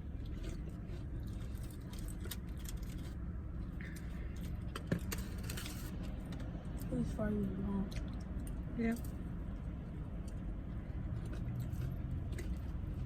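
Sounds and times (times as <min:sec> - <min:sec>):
car low hum: 0:00.0 - 0:13.0.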